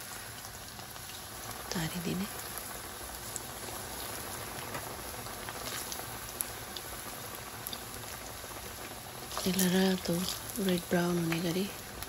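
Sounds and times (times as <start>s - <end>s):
hot oil sizzling and bubbling: 0.0s - 12.0s.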